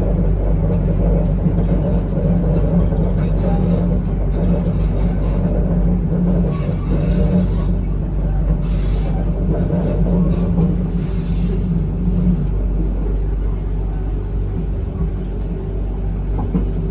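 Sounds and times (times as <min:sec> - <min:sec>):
train carriage rumbling: 0:00.0 - 0:16.9.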